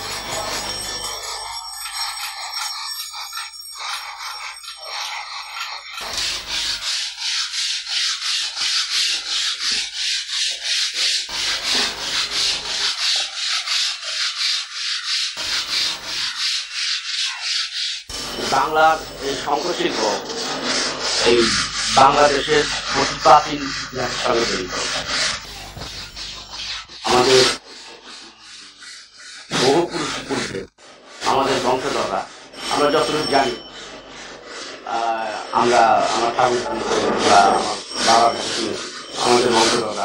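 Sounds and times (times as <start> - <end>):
hand saw rasping through shell: 0.0 - 40.0.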